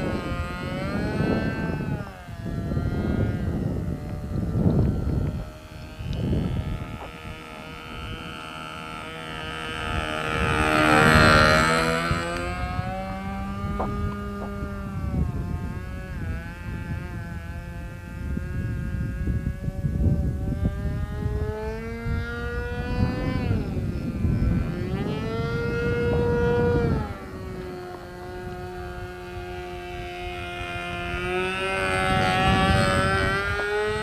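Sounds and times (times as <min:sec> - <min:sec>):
model airplane engine buzzing: 0:00.0 - 0:34.0.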